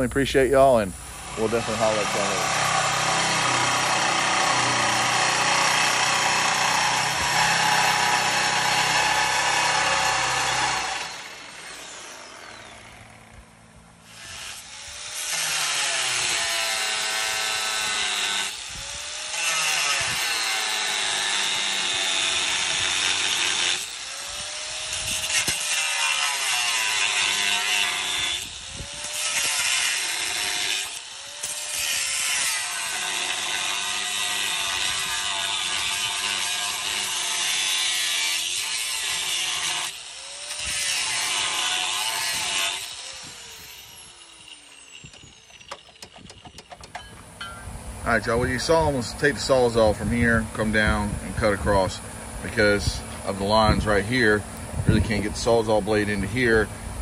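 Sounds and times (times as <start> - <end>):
reciprocating saw cutting steel: 0.6 - 13.4, 14.0 - 56.7
angle grinder cutting steel: 1.1 - 13.3, 14.0 - 47.7.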